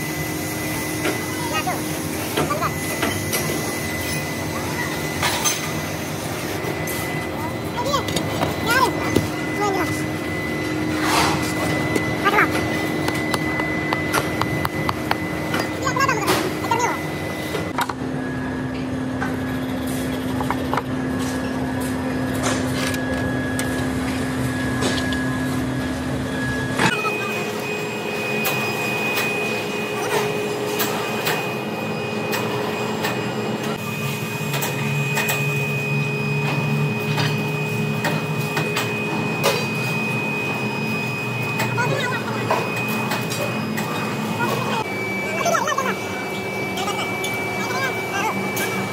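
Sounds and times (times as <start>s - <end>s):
machinery humming: 0.0s - 48.9s.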